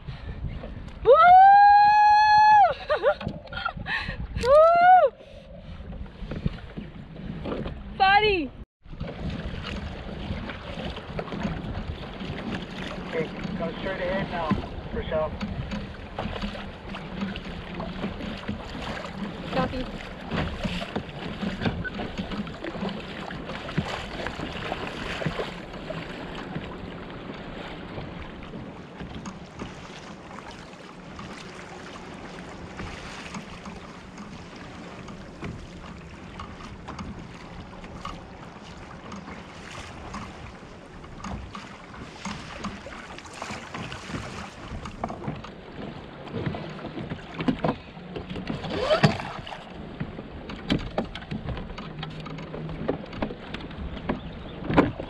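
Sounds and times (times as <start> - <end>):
water lapping against kayak hull: 0.0 - 55.0
water splashing: 1.6 - 55.0.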